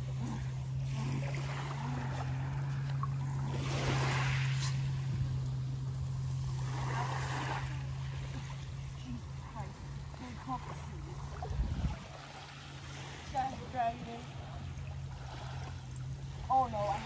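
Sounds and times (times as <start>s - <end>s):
boat engine droning: 0.0s - 17.0s
small waves washing: 0.0s - 17.0s.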